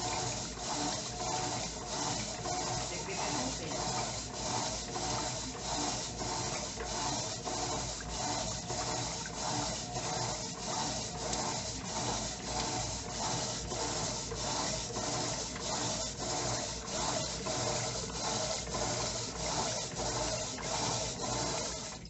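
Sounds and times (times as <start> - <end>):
washing machine agitating water: 0.0 - 22.0.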